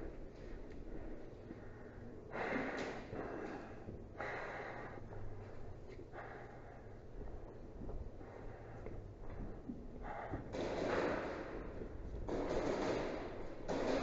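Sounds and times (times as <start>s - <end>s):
person breathing heavily: 0.4s - 11.8s.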